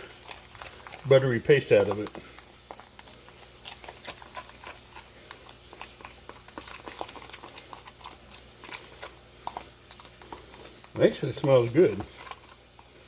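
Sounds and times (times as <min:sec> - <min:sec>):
utensil mixing paste in a bowl: 0:00.0 - 0:13.0.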